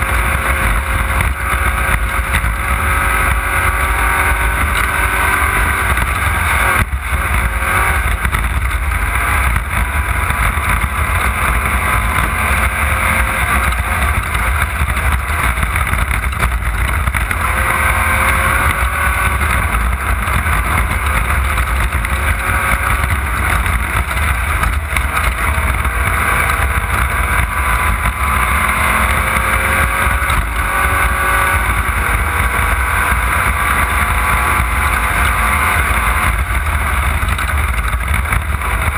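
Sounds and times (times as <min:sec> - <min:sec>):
heavy low rumble: 0:00.0 - 0:38.9
race car engine revving: 0:00.0 - 0:38.9.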